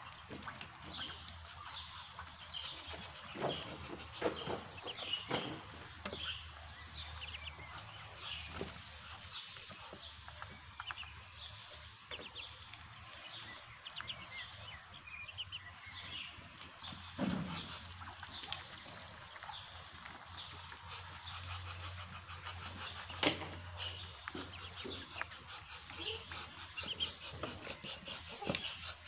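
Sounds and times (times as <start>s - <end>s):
bills pecking grain in trough: 0.0s - 29.0s
ducklings peeping: 0.0s - 29.0s.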